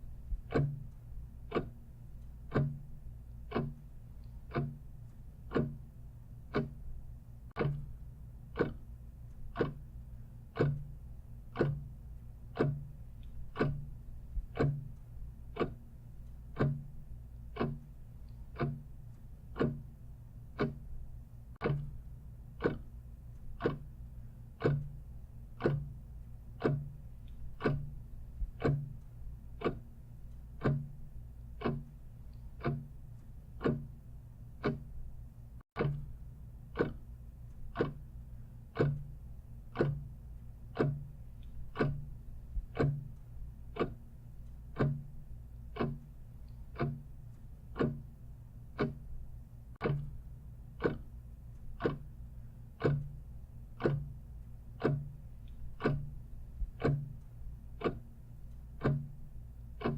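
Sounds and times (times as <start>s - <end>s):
clock ticking: 0.0s - 59.9s
faint low hum: 0.0s - 59.9s.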